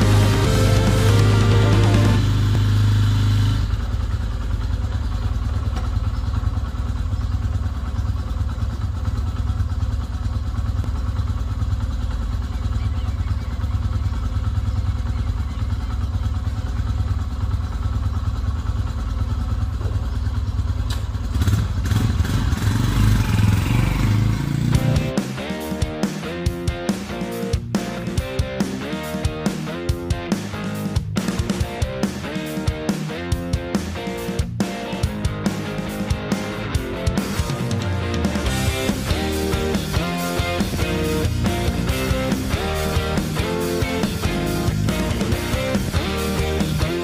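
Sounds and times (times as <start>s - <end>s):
motorcycle engine idling and revving: 0.0s - 47.0s.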